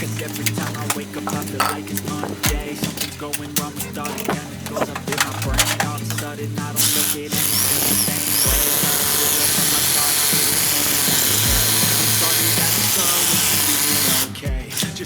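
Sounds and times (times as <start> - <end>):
background music with slow beat: 0.0 - 15.0
power tool running: 0.0 - 15.0.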